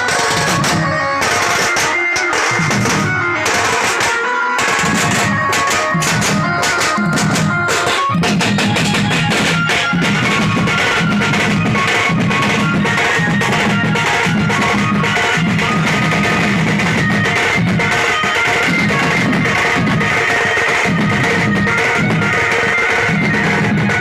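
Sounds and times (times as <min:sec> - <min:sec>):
band playing loud music: 0:00.0 - 0:24.0
held melody: 0:00.0 - 0:24.0
pounding drum beat: 0:00.0 - 0:24.0.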